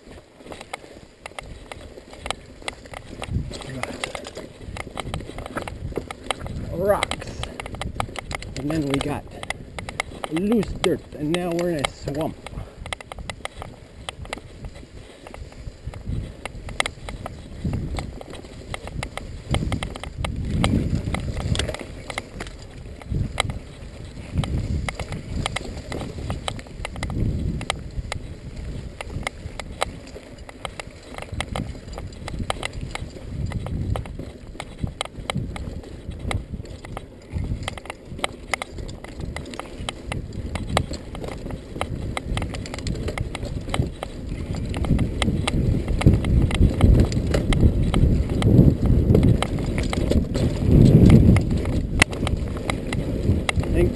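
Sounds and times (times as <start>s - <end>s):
bike chain and frame rattling: 0.0s - 53.9s
bike tyres rumbling on dirt: 0.0s - 53.9s.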